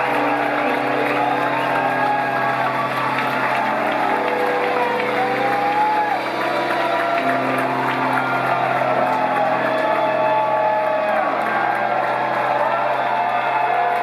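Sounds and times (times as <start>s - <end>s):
crowd cheering and whooping: 0.0s - 14.0s
people clapping: 0.0s - 14.0s.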